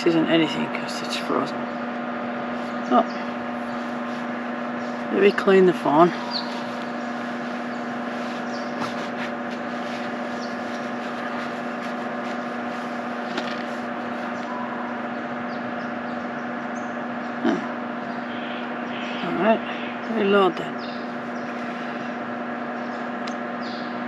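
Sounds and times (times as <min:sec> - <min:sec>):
water pump motor hum: 0:00.0 - 0:24.0.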